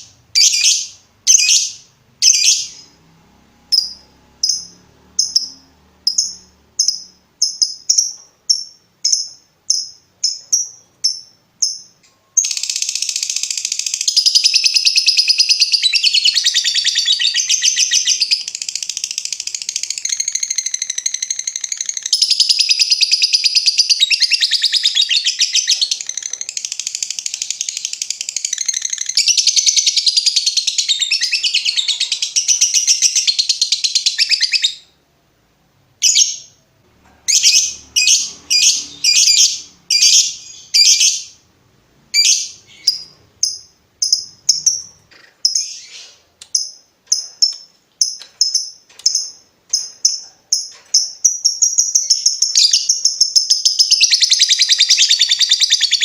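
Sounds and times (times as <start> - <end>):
lovebird chirping and chattering: 0.0 - 3.0, 3.7 - 35.0, 36.0 - 36.6, 37.2 - 41.4, 42.1 - 56.0.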